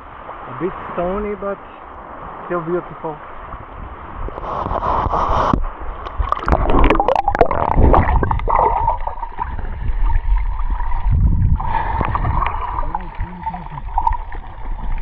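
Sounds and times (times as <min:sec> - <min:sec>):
sea water splashing and sloshing: 0:00.0 - 0:15.0.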